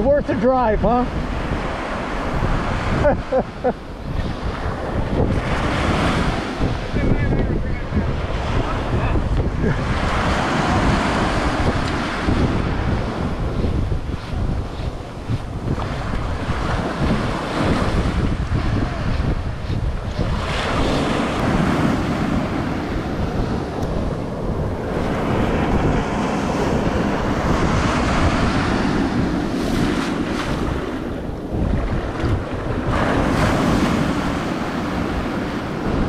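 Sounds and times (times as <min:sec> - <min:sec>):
surf washing up sandy beach: 0:00.0 - 0:36.0
wind buffeting microphone: 0:00.0 - 0:36.0.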